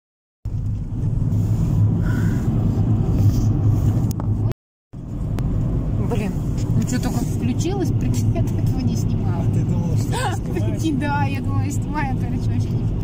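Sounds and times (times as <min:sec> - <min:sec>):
car engine and tyre noise: 0:00.5 - 0:13.0.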